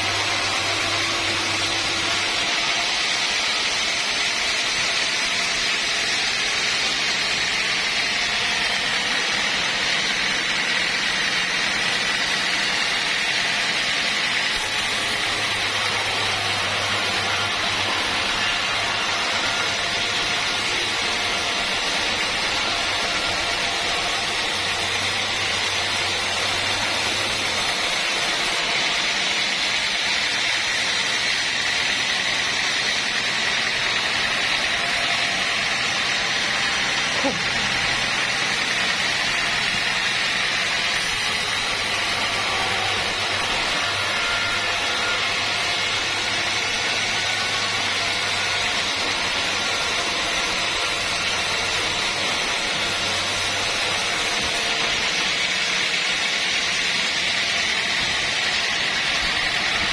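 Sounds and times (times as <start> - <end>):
sawmill machinery hiss and whine: 0.0 - 59.9.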